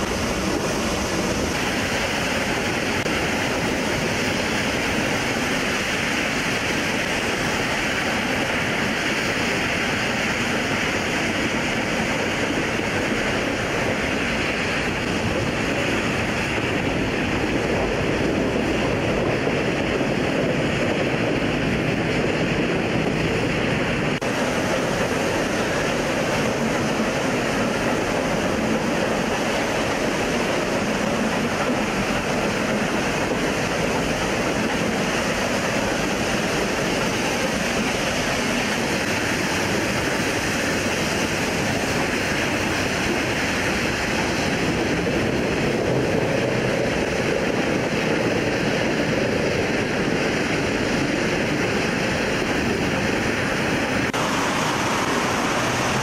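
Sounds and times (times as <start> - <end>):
train running rushing noise: 0.0 - 56.0.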